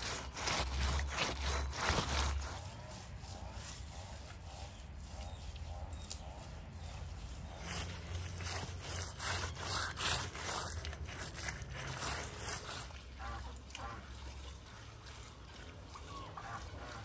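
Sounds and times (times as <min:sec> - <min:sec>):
hand scraping clay on wall: 0:00.0 - 0:14.0.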